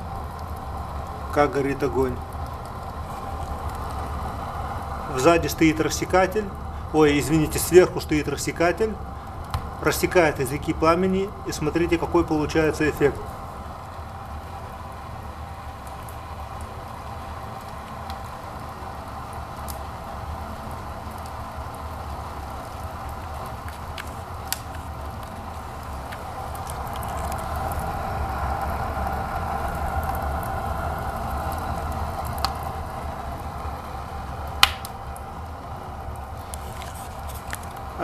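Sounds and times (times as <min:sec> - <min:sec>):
fire crackles: 0:00.0 - 0:38.0
fire rushing in fireplace: 0:00.0 - 0:38.0.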